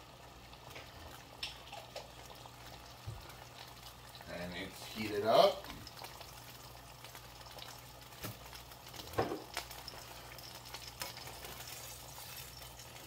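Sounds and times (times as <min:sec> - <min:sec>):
oil crackling in a pan: 0:00.0 - 0:13.0.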